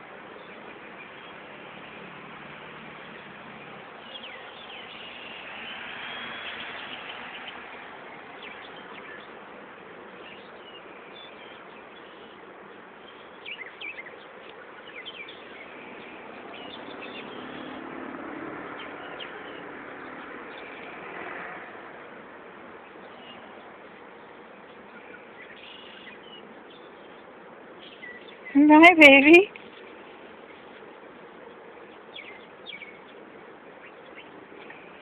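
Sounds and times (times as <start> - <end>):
small birds chirping: 0.0 - 18.0, 18.6 - 35.0
steady outdoor hiss: 0.0 - 35.0.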